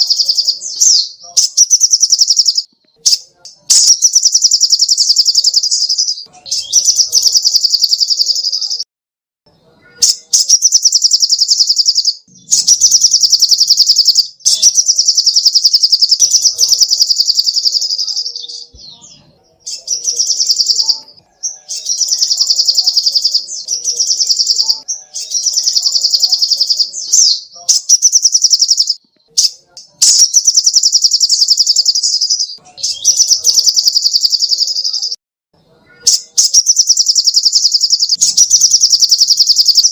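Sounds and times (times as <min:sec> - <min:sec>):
bird singing high fast trills: 0:00.0 - 0:08.8, 0:09.9 - 0:35.2, 0:35.9 - 0:39.9.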